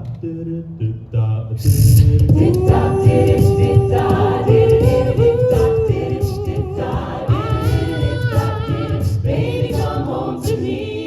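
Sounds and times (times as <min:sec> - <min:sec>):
a cappella group singing harmonies: 0:00.0 - 0:11.0
vocal percussion beat: 0:00.0 - 0:11.0.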